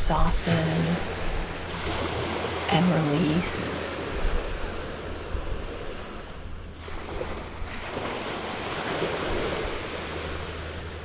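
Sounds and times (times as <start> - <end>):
ocean waves on shore: 0.0 - 11.0.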